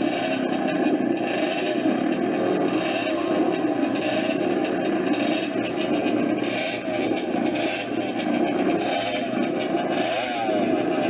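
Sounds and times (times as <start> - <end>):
motorcycle engine running rough: 0.0 - 11.0.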